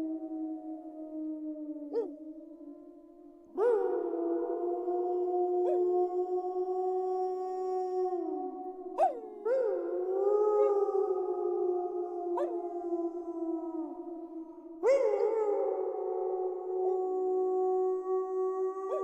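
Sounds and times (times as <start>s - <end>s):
wolves howling in chorus: 0.0s - 2.7s, 3.5s - 19.0s.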